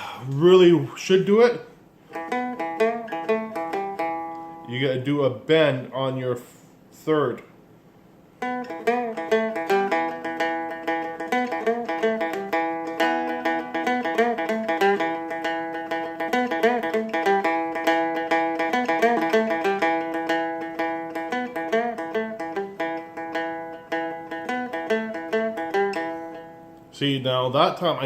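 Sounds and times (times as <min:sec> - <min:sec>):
fretted string instrument riff: 0:02.0 - 0:05.2, 0:08.3 - 0:28.0.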